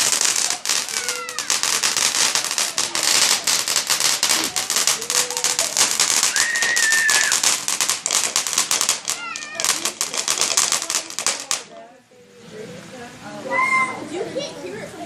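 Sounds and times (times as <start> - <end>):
fireworks crackling: 0.0 - 13.4.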